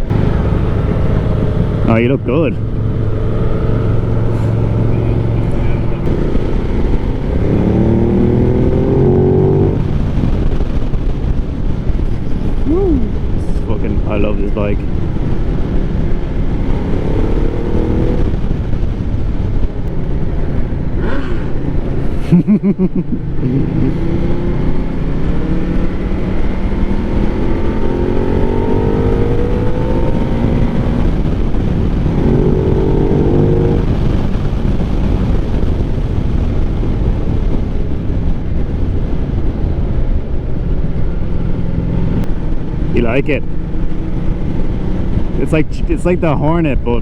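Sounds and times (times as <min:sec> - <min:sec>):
loud wind buffet: 0:00.0 - 0:47.0
wind rush: 0:00.0 - 0:47.0.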